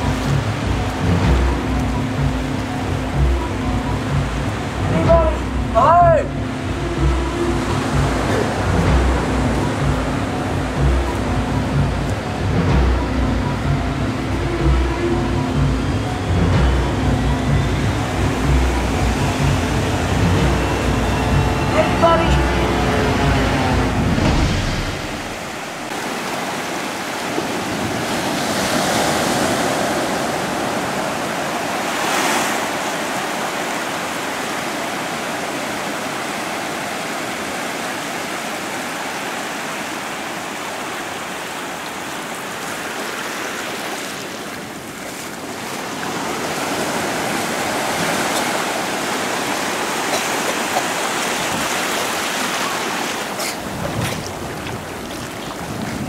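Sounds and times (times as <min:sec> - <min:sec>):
small waves washing onto shore: 0:00.0 - 0:56.0.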